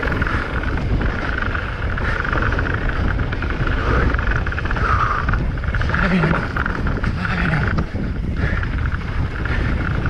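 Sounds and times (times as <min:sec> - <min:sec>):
bike rumbling and rattling: 0:00.0 - 0:10.0
wind buffeting microphone: 0:00.0 - 0:10.0.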